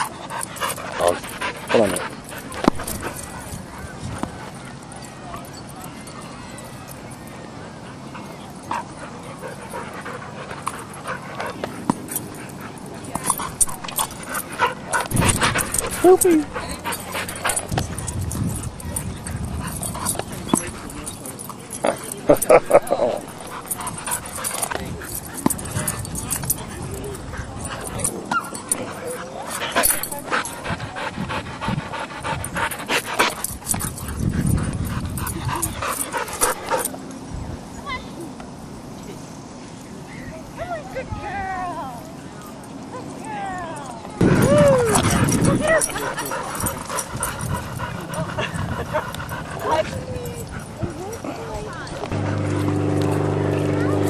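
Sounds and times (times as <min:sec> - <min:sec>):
dogs playing and vocalizing: 0:00.0 - 0:39.4, 0:42.0 - 0:54.0
people talking: 0:00.2 - 0:10.2, 0:12.8 - 0:33.3, 0:40.2 - 0:47.2, 0:47.9 - 0:54.0.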